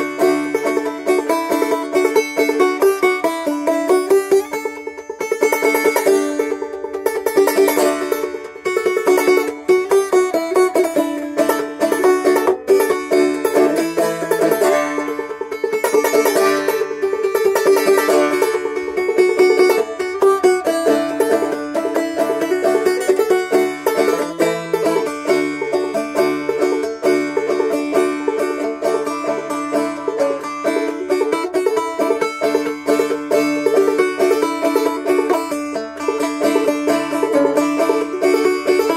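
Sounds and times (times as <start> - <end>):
banjo playing carol melody: 0.0 - 38.9.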